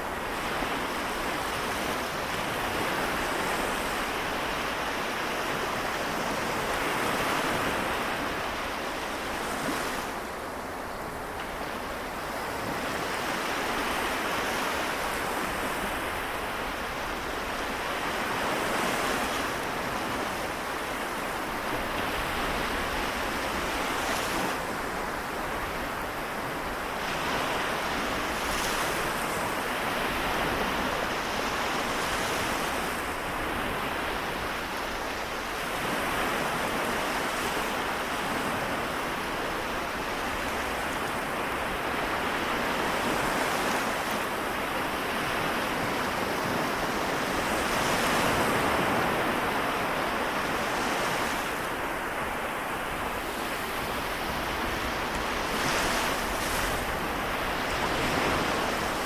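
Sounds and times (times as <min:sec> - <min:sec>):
waves washing in: 0:00.0 - 0:59.0.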